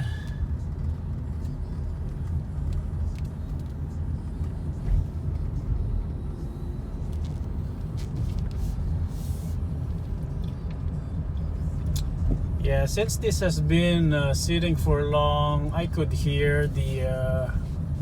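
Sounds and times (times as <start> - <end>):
road and engine rumble: 0.0 - 18.0.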